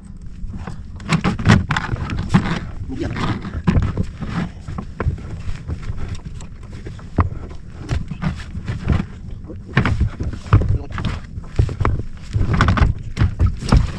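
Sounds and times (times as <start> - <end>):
knocks and thumps on a boat: 0.0 - 13.9
wind rumbling on microphone: 0.0 - 13.9.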